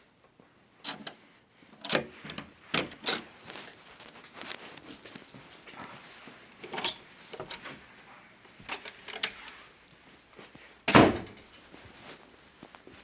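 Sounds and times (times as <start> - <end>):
light steps and knocks: 2.2 - 13.0.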